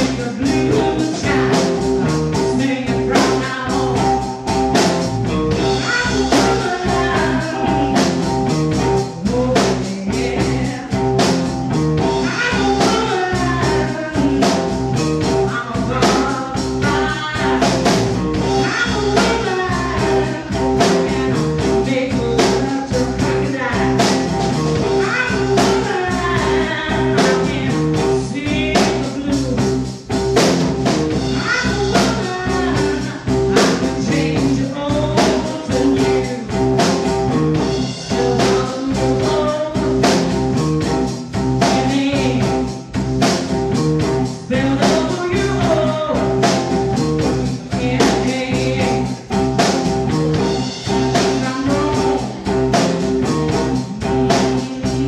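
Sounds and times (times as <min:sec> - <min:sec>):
blues band playing: 0:00.0 - 0:55.0
person singing: 0:00.0 - 0:55.0
steady drum beat: 0:00.0 - 0:55.0.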